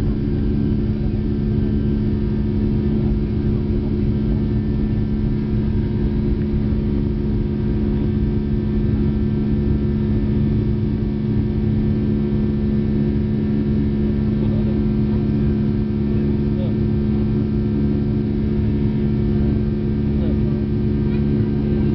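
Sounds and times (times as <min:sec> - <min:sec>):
jet engines droning in cabin: 0:00.0 - 0:21.9.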